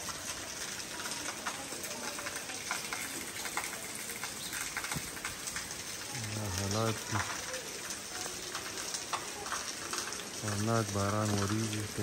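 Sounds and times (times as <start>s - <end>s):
rain falling into water: 0.0s - 12.0s.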